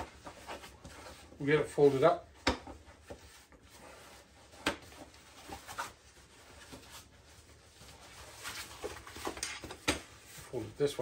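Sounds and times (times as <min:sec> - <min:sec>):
fabric rustling and rubbing: 0:00.0 - 0:11.0.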